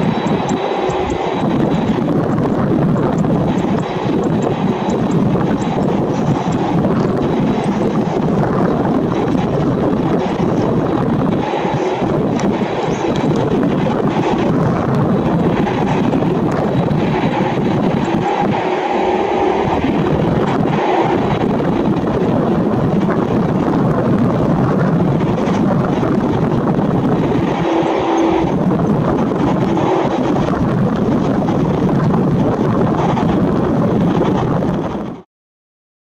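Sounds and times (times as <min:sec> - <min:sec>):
jet engines roaring at takeoff: 0:00.0 - 0:35.2.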